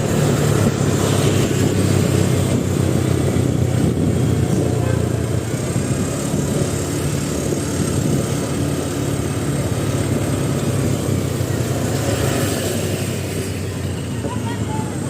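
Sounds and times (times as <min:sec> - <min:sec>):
road noise: 0:00.0 - 0:15.0
vehicle engine rumbling: 0:00.0 - 0:15.0.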